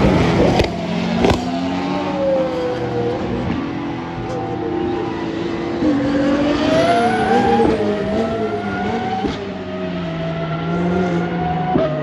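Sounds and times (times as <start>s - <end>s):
race car engines at full throttle: 0.0s - 12.0s.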